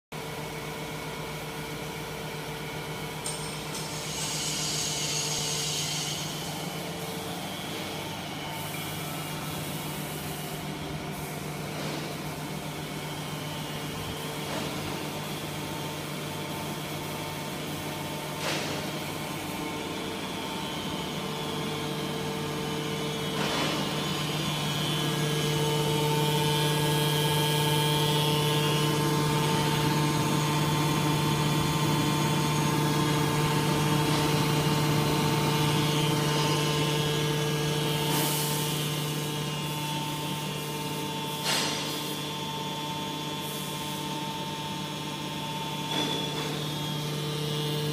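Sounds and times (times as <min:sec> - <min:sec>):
hydraulic pump motor hum: 0:01.4 - 0:47.9.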